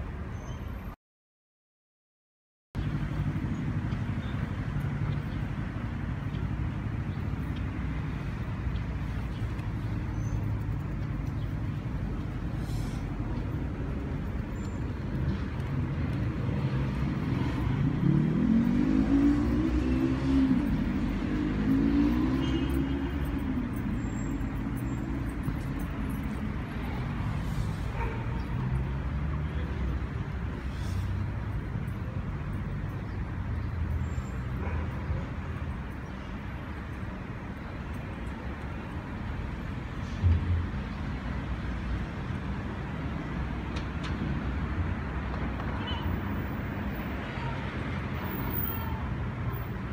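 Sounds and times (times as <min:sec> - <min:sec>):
traffic rumble: 0:02.8 - 0:49.9.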